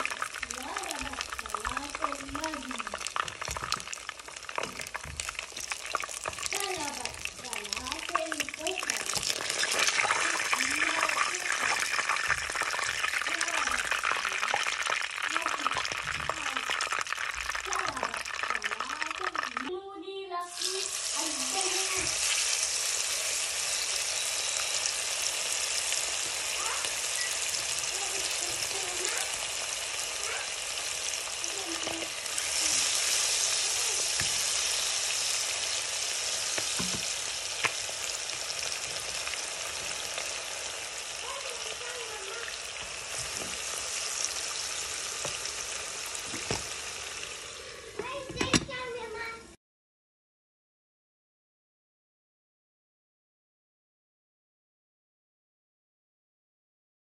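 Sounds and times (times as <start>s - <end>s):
chicken sizzling in hot oil: 0.0s - 19.7s, 20.5s - 49.3s.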